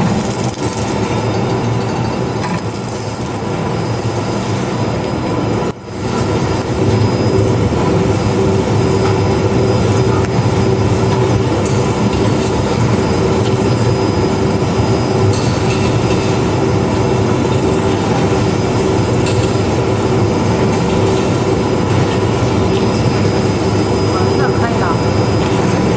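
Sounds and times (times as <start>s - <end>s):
shrink wrap machine whirring: 0.0s - 25.9s.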